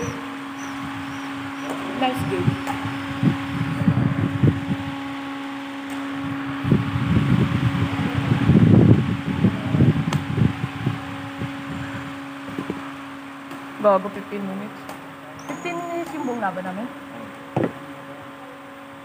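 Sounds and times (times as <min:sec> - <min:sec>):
low rumbling: 0:00.0 - 0:18.2
fan humming: 0:00.0 - 0:19.0.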